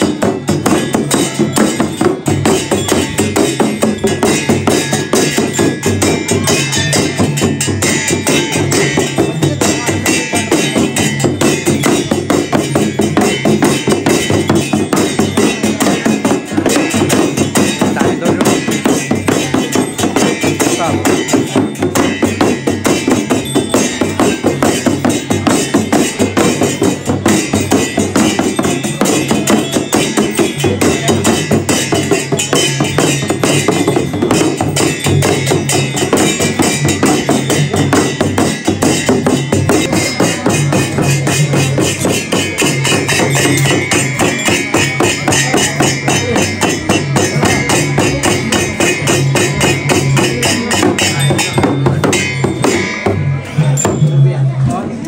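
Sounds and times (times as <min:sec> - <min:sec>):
frame drum beaten fast: 0:00.0 - 0:54.0.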